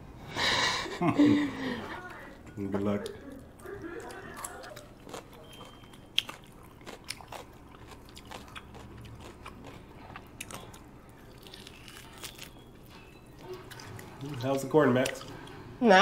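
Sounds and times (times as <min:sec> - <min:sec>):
person chewing food: 0:02.7 - 0:15.7.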